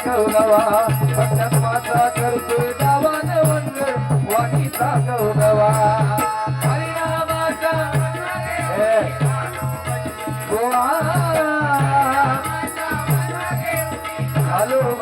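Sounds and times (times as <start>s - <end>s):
person singing devotional song: 0.0s - 15.0s
steady drum beat: 0.0s - 15.0s.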